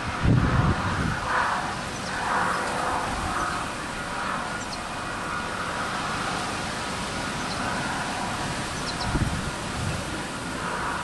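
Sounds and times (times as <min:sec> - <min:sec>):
electric train hum and rumble: 0:00.0 - 0:11.0.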